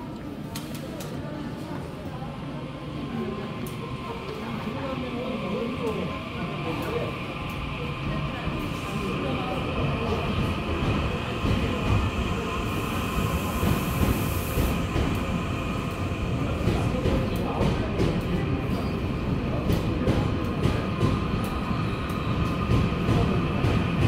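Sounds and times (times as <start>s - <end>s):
electric train rumble: 2.4s - 24.0s.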